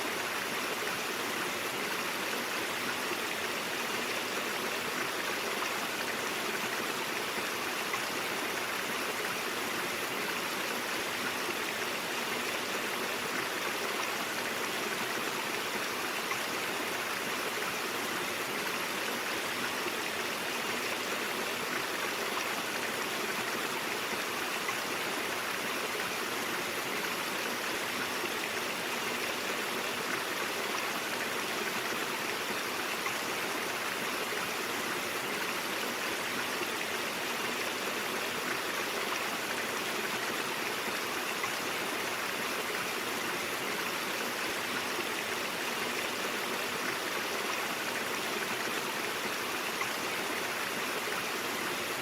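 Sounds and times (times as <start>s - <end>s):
stream water flowing over rocks: 0.0s - 52.0s.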